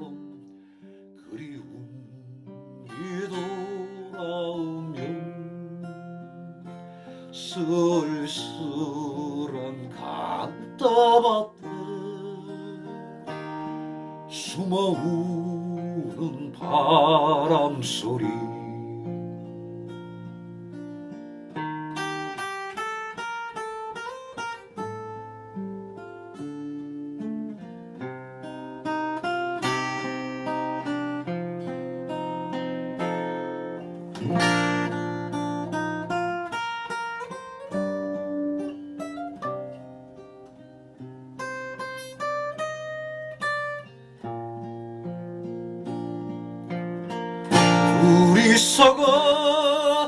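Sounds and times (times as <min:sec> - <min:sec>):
acoustic guitar playing: 0:00.0 - 0:50.0.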